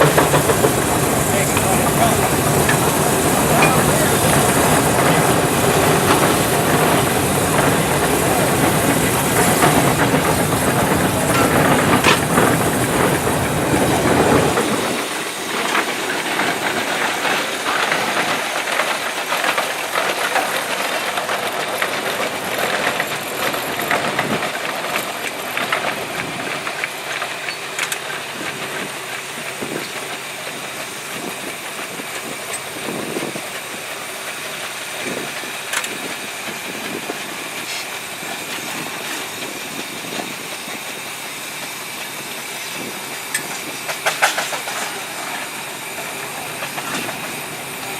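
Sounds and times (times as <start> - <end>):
machinery clatter: 0.0 - 47.9
rhythmic exhaust chuffs: 0.0 - 47.9
steam hissing: 0.0 - 47.9.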